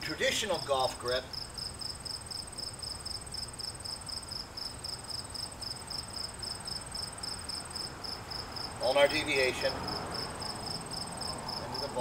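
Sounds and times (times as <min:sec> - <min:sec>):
crickets chirping: 0:00.1 - 0:12.0
high rapid insect trill: 0:00.4 - 0:12.0.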